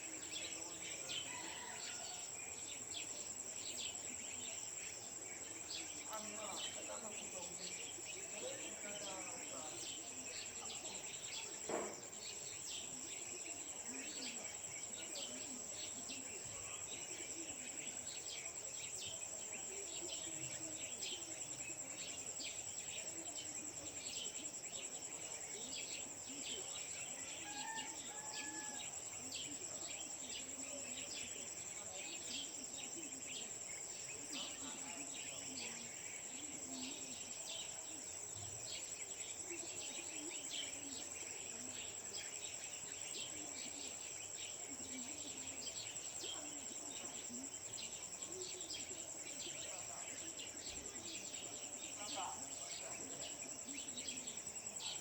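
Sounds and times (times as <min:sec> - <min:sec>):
insects trilling: 0:00.0 - 0:55.0
murmur of distant voices: 0:00.0 - 0:55.0.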